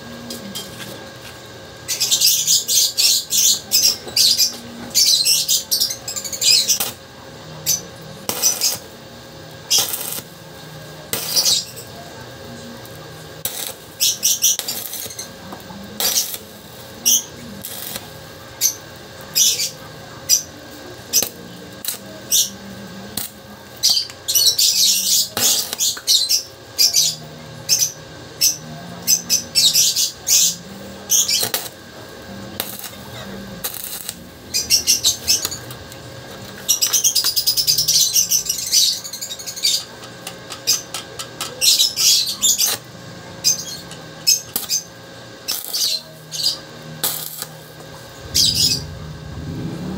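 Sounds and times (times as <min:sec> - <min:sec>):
welding arc crackling: 0:00.2 - 0:26.5, 0:27.8 - 0:49.9.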